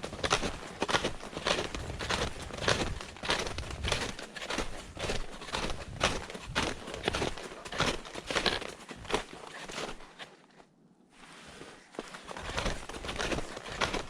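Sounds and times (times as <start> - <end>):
footsteps on trail: 0.0 - 10.6, 11.2 - 14.0.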